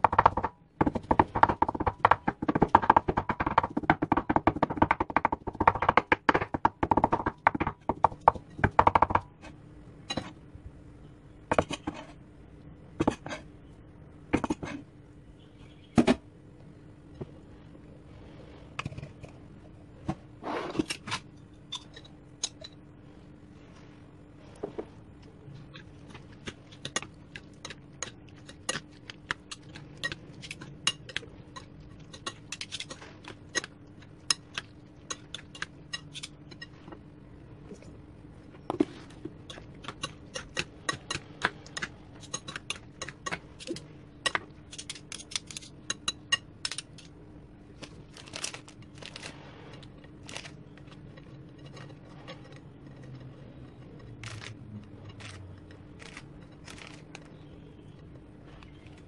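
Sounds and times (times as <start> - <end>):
faint hum: 0.0 - 59.0.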